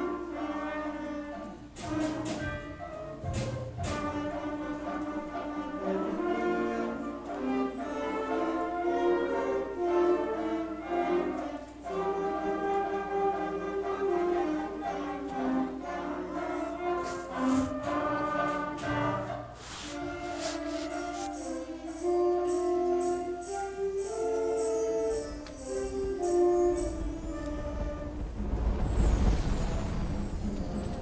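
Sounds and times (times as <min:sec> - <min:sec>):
orchestral music with choir: 0:00.0 - 0:31.0.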